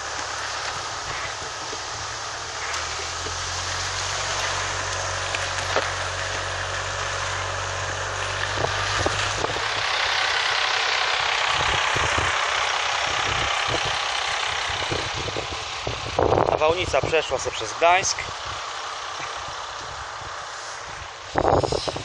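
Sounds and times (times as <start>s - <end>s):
car engine running: 0.0s - 22.0s
road and wind hiss: 0.0s - 22.0s.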